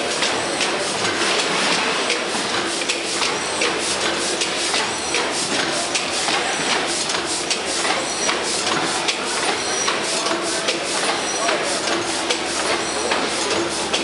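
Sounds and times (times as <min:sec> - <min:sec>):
gas engine clattering: 0:00.0 - 0:14.0.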